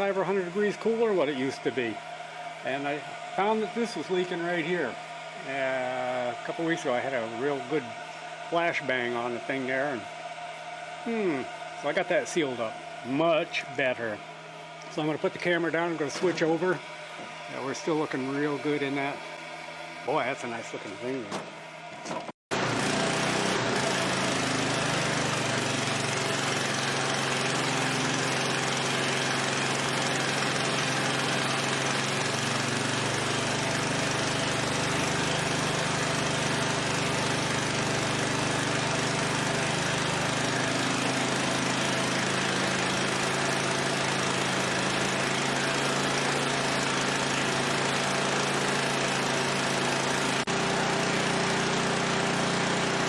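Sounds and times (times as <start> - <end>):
single-cylinder engine running: 0.0 - 10.4, 11.0 - 21.5, 22.5 - 53.0.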